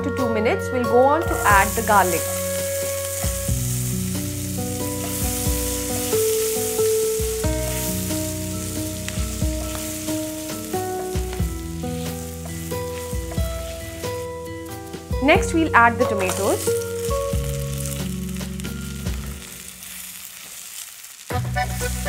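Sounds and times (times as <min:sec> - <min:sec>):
garlic sizzling in hot oil: 0:00.3 - 0:22.0
spatula stirring: 0:01.3 - 0:22.0.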